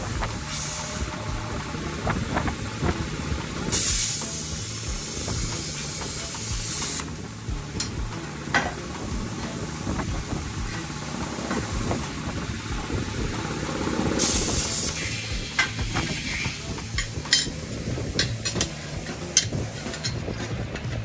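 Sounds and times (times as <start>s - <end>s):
plasma cutter hissing: 0.0s - 20.1s
steady low hum: 0.0s - 21.0s.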